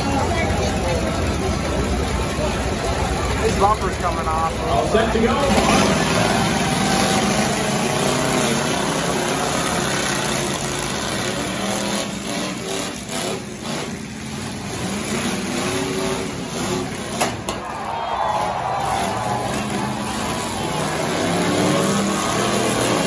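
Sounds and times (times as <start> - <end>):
truck engines revving: 0.0 - 23.0
trucks ramming each other: 0.0 - 23.0.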